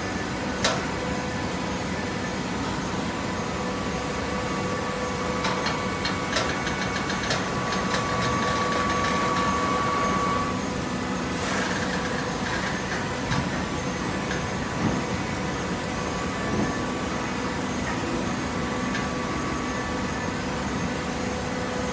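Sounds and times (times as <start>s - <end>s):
baler motor and pump hum: 0.0s - 21.9s.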